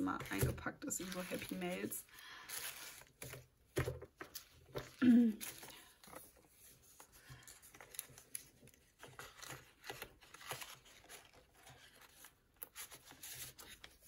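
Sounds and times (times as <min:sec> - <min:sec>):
paper rustling and crinkling: 0:00.0 - 0:14.0.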